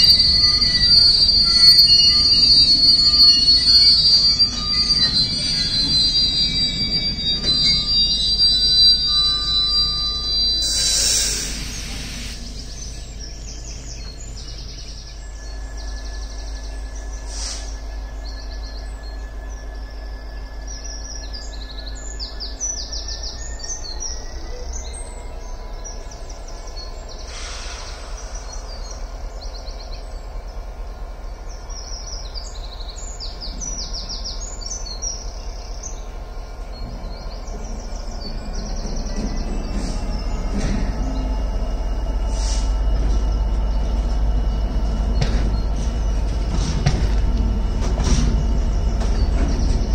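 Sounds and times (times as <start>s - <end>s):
steady low rumble: 0.0s - 23.4s, 28.0s - 49.9s
songbirds singing: 0.0s - 49.9s.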